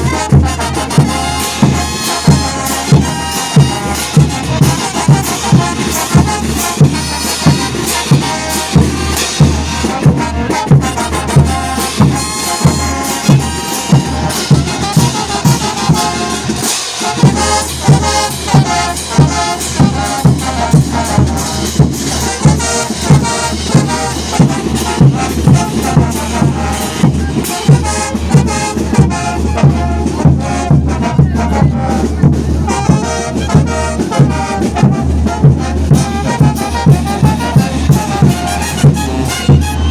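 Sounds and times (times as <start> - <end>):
bass drum beat: 0.0 - 39.9
trumpets and trombones: 0.0 - 39.9.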